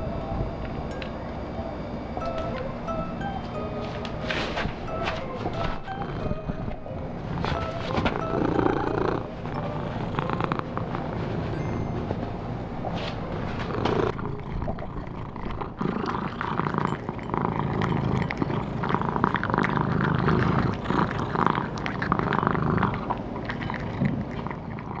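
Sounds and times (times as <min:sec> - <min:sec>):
cat purring: 0:01.2 - 0:25.0
cat chewing and crunching: 0:02.2 - 0:25.0.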